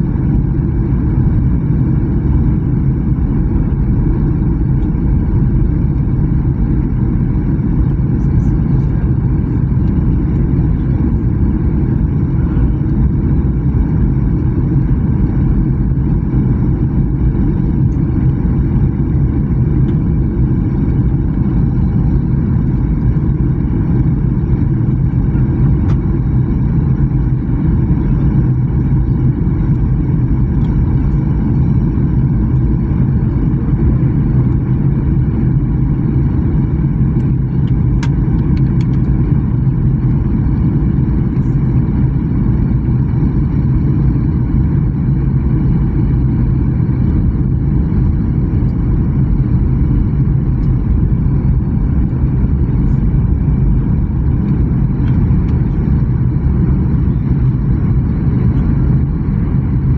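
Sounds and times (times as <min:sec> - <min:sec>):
jet airliner cabin drone: 0:00.0 - 0:59.9.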